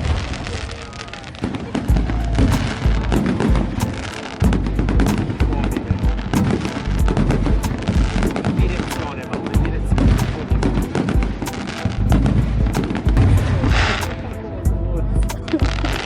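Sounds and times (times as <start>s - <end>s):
deep fireworks booms: 0.0s - 14.1s
fireworks bangs and crackles: 0.0s - 14.6s.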